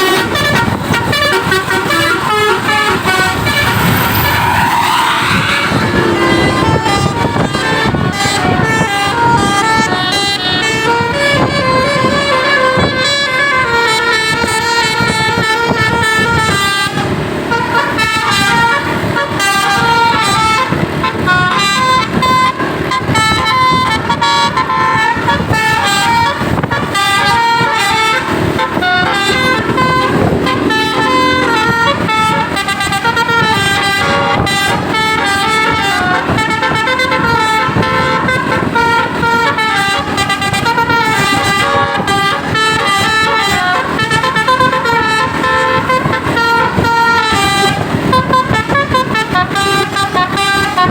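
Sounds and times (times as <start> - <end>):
bus horns playing melodic tunes: 0.0 - 50.9.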